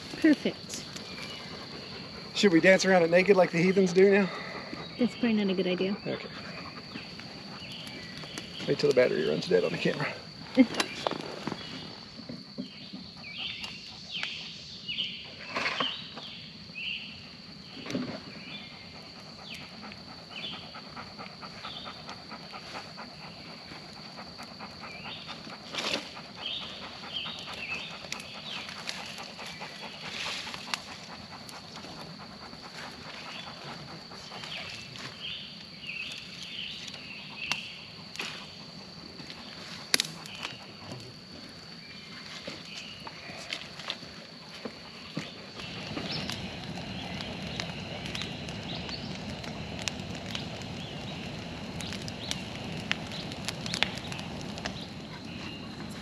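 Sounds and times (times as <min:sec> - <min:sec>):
fire crackling and popping: 0:00.0 - 0:56.0
insect drone: 0:00.0 - 0:56.0.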